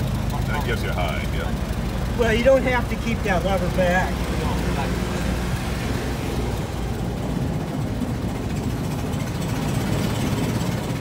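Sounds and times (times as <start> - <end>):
old car engine running slowly: 0.0 - 5.6, 6.4 - 11.0.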